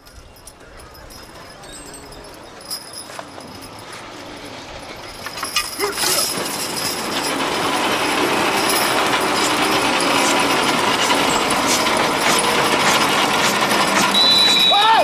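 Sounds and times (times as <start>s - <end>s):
sled scraping over dirt: 1.1s - 15.0s.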